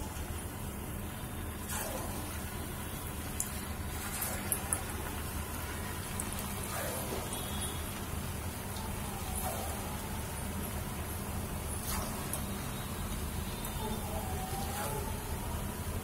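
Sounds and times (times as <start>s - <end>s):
food sizzling in deep fryer: 0.0s - 13.9s.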